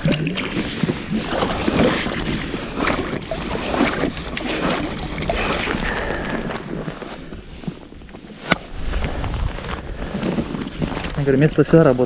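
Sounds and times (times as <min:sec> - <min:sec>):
water lapping at hull: 0:00.0 - 0:12.0
wind on microphone: 0:00.0 - 0:12.0.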